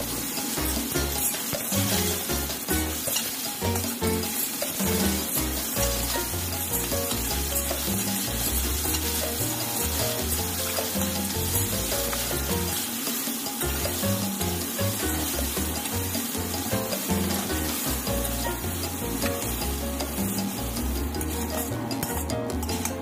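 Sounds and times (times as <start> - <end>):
background music: 0.0 - 23.0
food sizzling in a wok: 0.0 - 23.0
spatula tossing against pan: 0.0 - 23.0.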